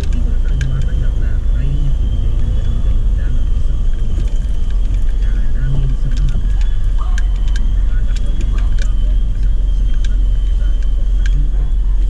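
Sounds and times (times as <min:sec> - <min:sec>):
car rattling over bumps: 0:00.0 - 0:12.0
car rumbling on dirt road: 0:00.0 - 0:12.0.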